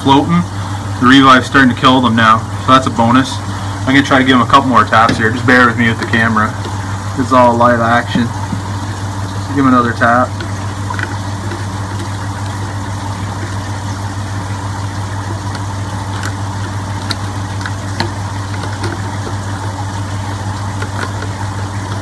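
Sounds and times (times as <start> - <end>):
small motor humming: 3.2 - 22.0.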